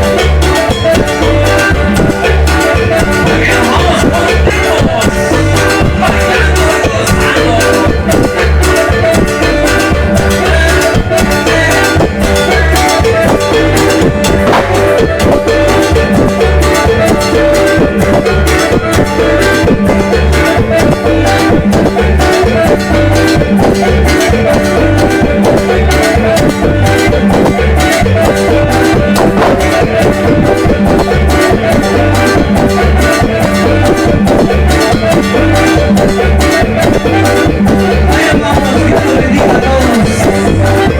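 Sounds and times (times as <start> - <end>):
electronic keyboard latin dance music: 0.0 - 40.9.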